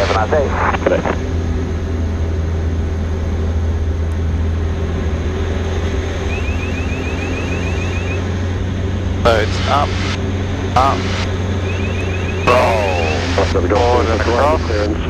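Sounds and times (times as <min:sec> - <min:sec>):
aircraft engine and propeller drone: 0:00.0 - 0:15.0.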